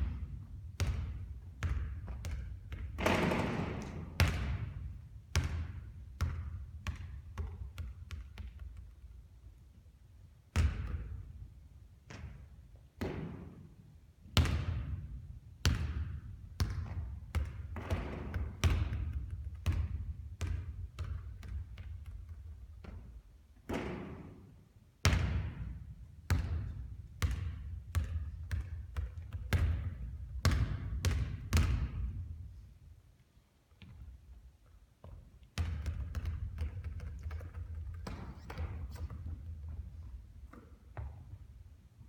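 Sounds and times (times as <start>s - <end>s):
basketballs bouncing on court: 0.0s - 9.2s, 10.5s - 13.6s, 14.4s - 24.5s, 25.1s - 32.4s, 35.0s - 41.8s.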